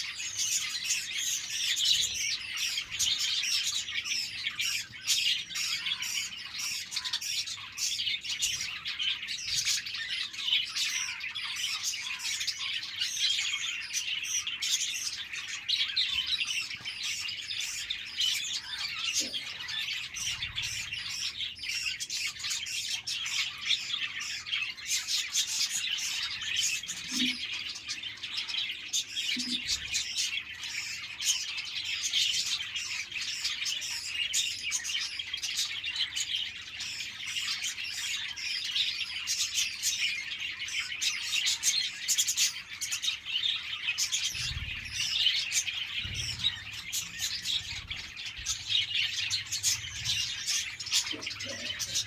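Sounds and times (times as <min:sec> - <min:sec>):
bird squawks: 0:00.0 - 0:52.0
budgerigars chirping and chattering: 0:00.0 - 0:52.0.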